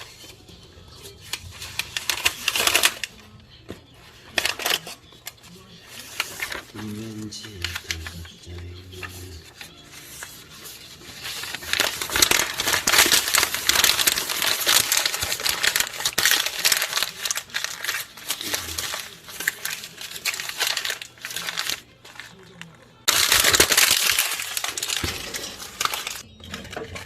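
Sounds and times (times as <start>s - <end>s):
paper being crumpled: 0.0s - 27.0s.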